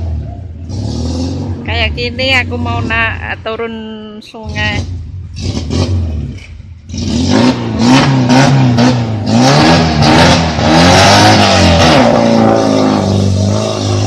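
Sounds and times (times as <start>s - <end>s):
van engine revving: 0.0s - 3.2s, 4.4s - 14.0s.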